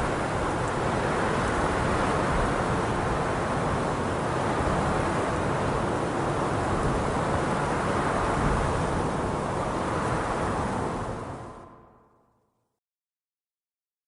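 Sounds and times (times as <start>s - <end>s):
steady wind blowing: 0.0s - 12.2s.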